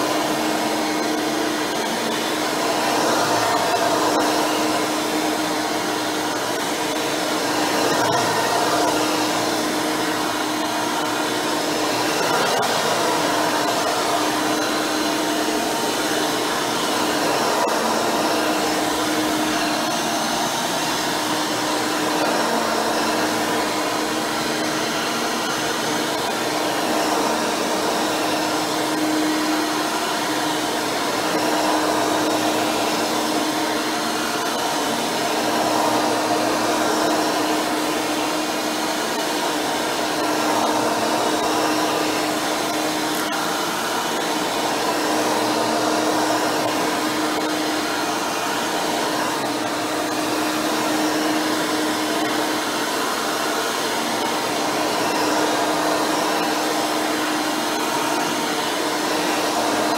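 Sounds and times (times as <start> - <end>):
upright vacuum running on carpet: 0.0 - 59.9.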